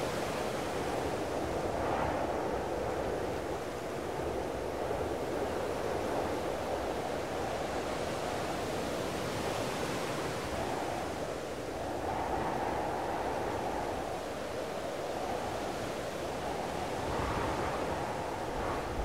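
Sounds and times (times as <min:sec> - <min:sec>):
wind: 0:00.0 - 0:19.0.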